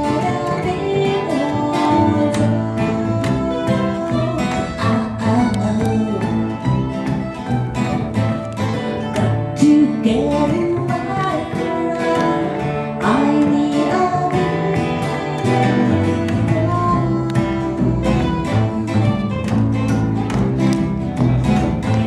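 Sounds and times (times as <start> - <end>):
acoustic country band playing: 0.0 - 22.0.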